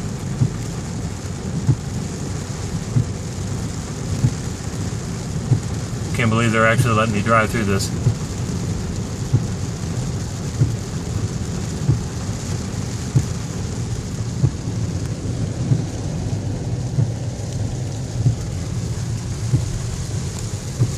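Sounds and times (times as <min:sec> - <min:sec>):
car rumbling through water: 0:00.0 - 0:20.9.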